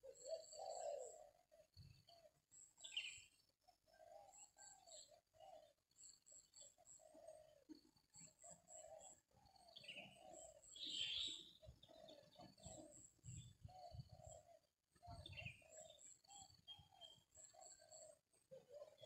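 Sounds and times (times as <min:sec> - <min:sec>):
dove cooing: 0:00.0 - 0:03.1, 0:03.9 - 0:05.8, 0:08.3 - 0:19.0
small birds chirping: 0:00.0 - 0:19.0.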